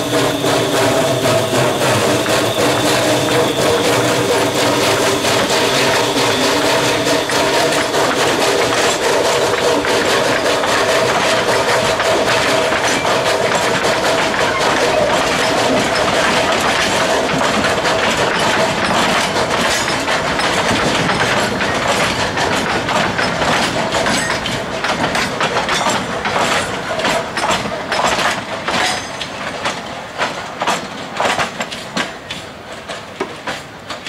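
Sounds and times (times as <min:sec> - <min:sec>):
train wheels clacking over rail joints: 0:00.0 - 0:34.0.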